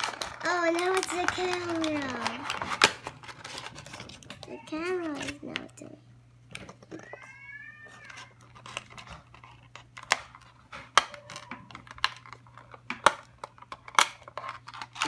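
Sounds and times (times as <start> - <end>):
scissors snipping plastic: 0.0 - 5.6, 8.5 - 15.0
plastic crackling: 0.0 - 5.9, 7.8 - 15.0.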